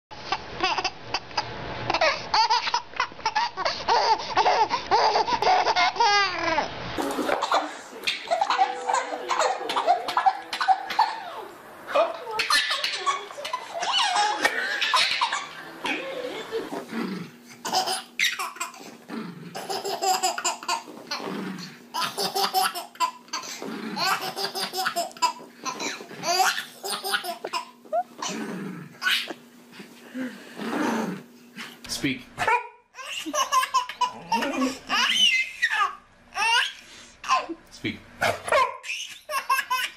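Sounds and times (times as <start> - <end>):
baby laughing: 0.3 - 16.9, 17.6 - 18.9, 19.5 - 21.2, 21.9 - 28.4, 29.0 - 29.4, 32.4 - 37.6, 38.5 - 39.9.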